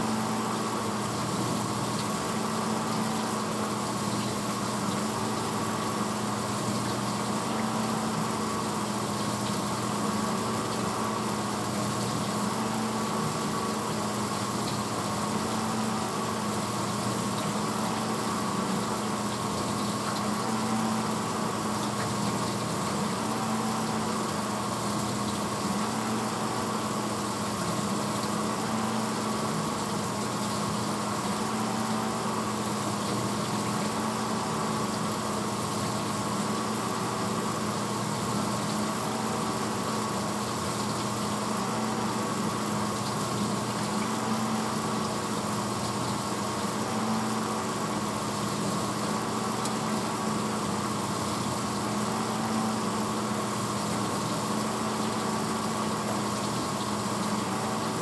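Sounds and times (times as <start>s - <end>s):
dishwasher pump motor hum: 0.0s - 58.0s
wash water noise: 0.0s - 58.0s.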